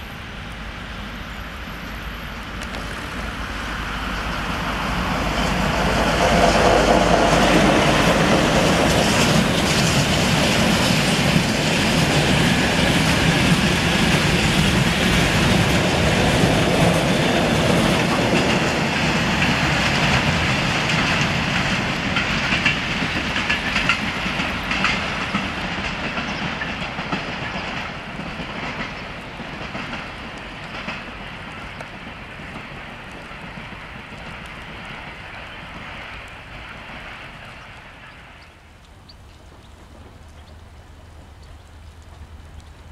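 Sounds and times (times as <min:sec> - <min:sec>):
diesel locomotive engine: 0:00.0 - 0:38.4
train wheels clicking over rail joints: 0:02.6 - 0:38.1.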